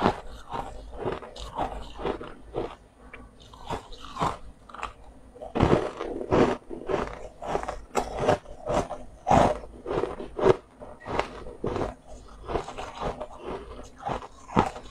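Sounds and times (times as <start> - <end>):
person chewing crunchy food: 0.0 - 14.9.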